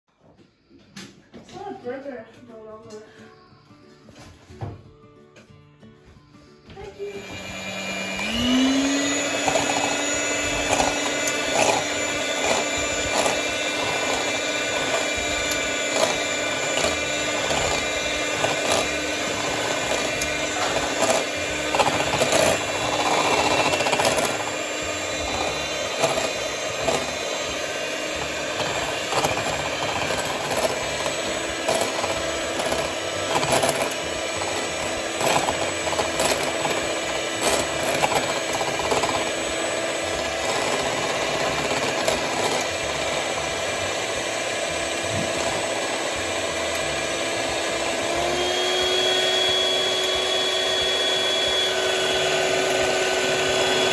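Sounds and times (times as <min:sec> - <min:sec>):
electric hand mixer motor: 0:06.7 - 0:53.9.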